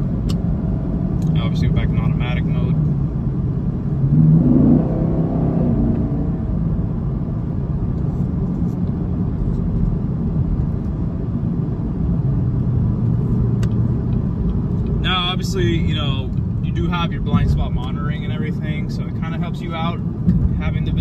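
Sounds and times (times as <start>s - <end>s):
car engine low rumble: 0.0s - 21.0s
road noise: 0.0s - 21.0s.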